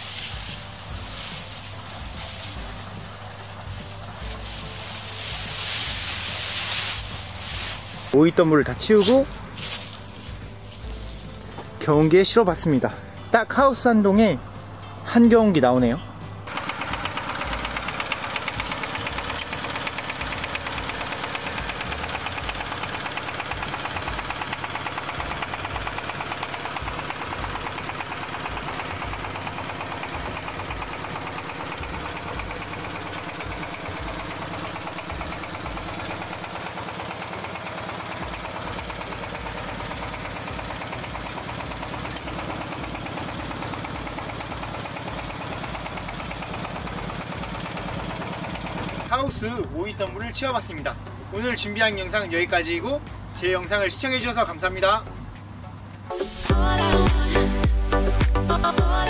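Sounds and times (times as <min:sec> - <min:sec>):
diesel tiller engine chugging: 0:00.0 - 0:57.7.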